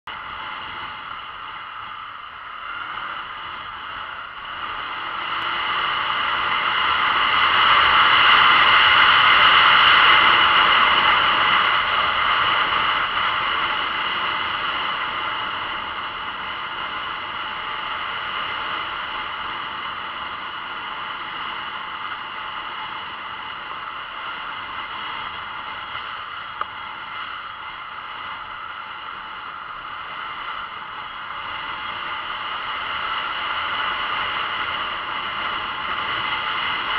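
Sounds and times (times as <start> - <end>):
wind and road noise hiss: 0.1 - 36.9.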